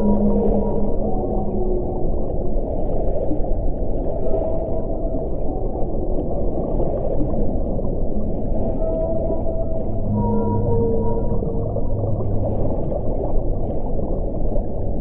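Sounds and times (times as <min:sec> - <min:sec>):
underwater whale calls: 0:00.0 - 0:02.9, 0:04.0 - 0:14.4
low ocean rumble: 0:00.0 - 0:15.0.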